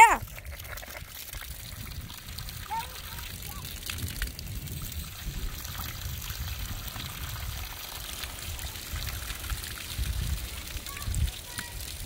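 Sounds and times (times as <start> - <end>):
hose water splashing on ground: 0.0 - 12.0.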